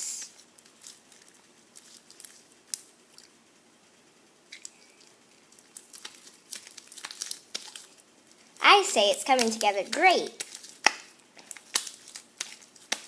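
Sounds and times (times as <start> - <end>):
slime squishing: 0.0 - 3.4, 4.5 - 13.0.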